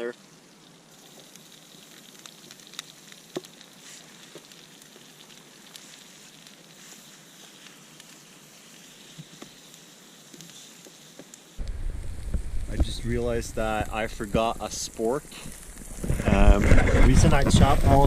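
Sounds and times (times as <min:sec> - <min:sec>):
greens sizzling in a pan: 0:00.0 - 0:18.0
sharp crackles and pops: 0:00.0 - 0:18.0.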